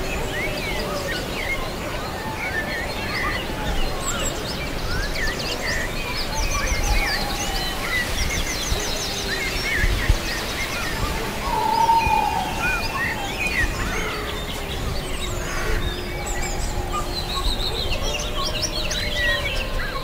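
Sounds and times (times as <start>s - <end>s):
songbirds chirping and singing: 0.0s - 20.0s
steady background rush: 0.0s - 20.0s.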